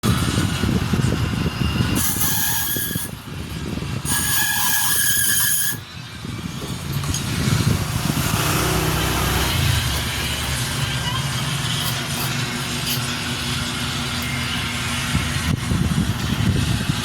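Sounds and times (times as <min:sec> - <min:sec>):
street traffic rumble: 0:00.0 - 0:04.4, 0:05.3 - 0:17.0
key-cutting machine whine: 0:00.0 - 0:17.0.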